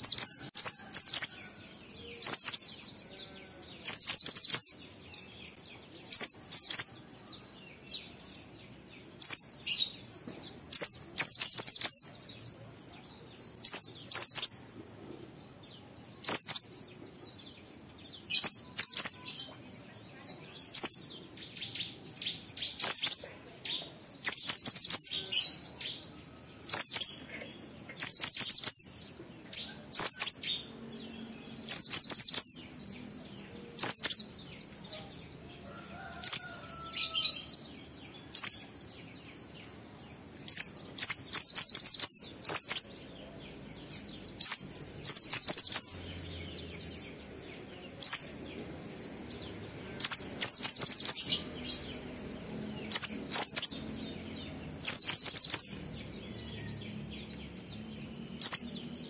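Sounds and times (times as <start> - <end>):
faint bird chirps: 0.0 - 37.5, 38.1 - 53.8, 54.7 - 59.0.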